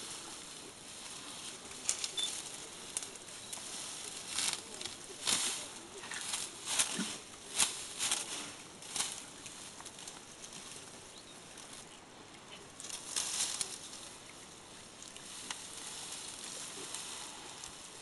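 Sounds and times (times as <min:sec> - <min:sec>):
elephant rustling and chewing grass: 0:00.0 - 0:18.0.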